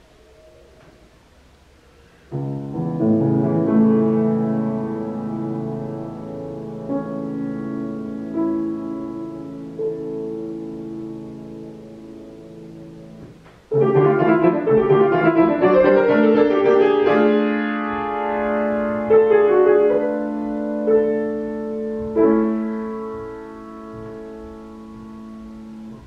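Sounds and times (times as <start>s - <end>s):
grand piano playing: 2.3s - 26.0s.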